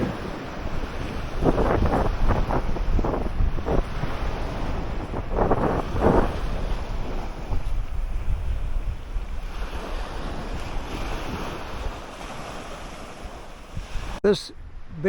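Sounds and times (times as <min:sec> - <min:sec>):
surf washing onto beach: 0:00.0 - 0:14.2
wind buffeting microphone: 0:00.0 - 0:15.0.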